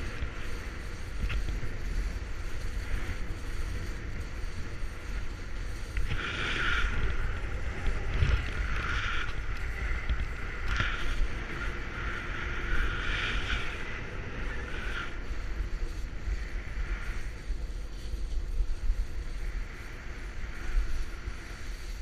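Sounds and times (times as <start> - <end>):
skis scraping across snow: 0.0 - 22.0
wind buffeting microphone: 0.0 - 22.0.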